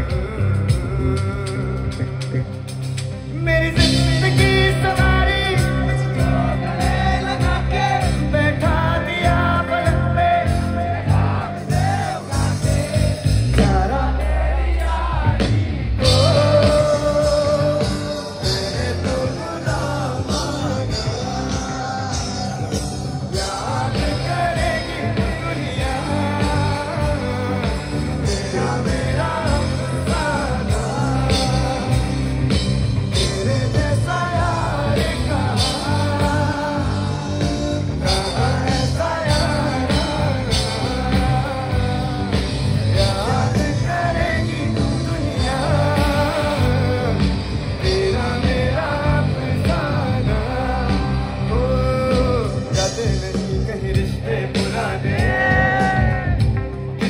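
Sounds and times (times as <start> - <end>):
lead vocalist singing: 0.0 - 57.0
live band through pa system: 0.0 - 57.0.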